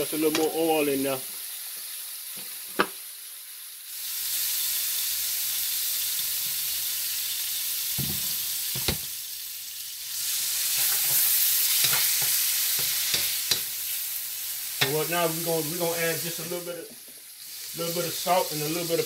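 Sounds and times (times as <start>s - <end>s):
chicken sizzling in a wok: 0.0s - 19.0s.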